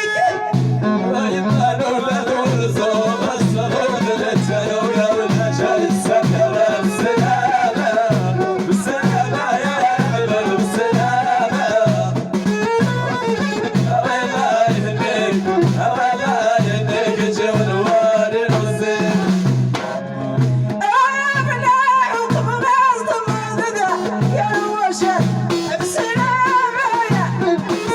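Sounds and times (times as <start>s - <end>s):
folk music: 0.0s - 27.9s.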